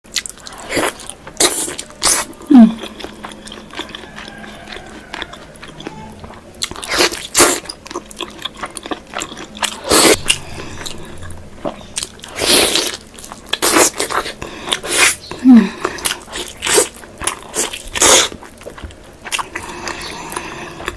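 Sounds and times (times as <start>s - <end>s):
quiet chewing: 0.1s - 20.9s.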